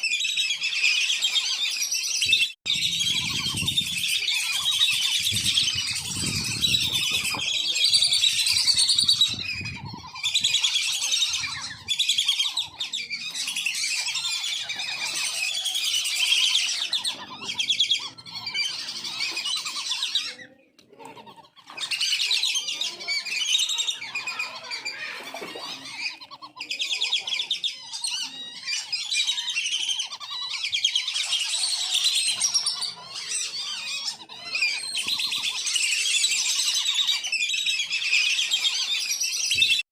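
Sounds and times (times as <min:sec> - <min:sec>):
ducks whistling calls: 0:00.0 - 0:39.8.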